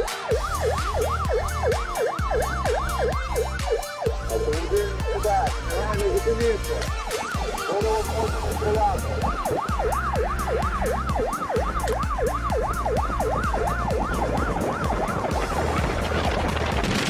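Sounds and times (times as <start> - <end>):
police siren warbling: 0.0 - 16.7.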